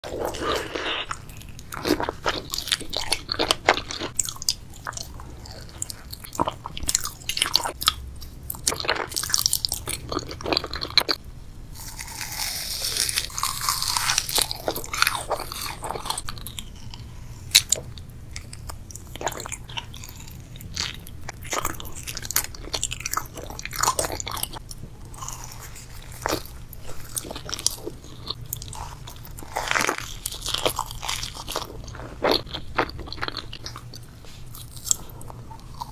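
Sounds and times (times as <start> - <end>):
person chewing soft food: 0.0 - 35.9.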